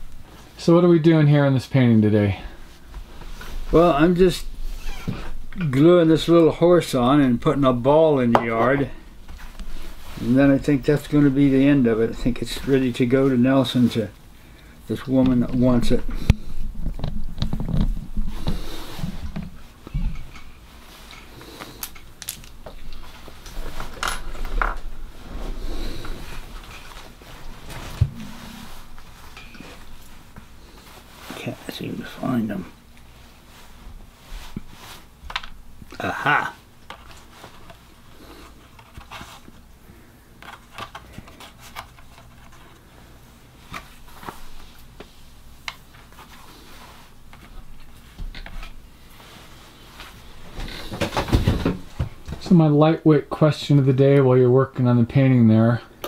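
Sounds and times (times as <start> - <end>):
soft rustling: 1.8 - 35.8, 36.6 - 52.6.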